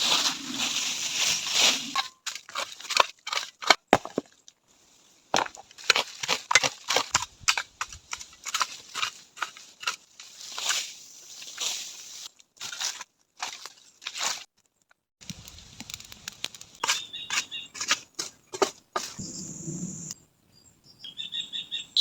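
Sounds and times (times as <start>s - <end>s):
dry twigs and leaves crunching: 0.0s - 18.9s.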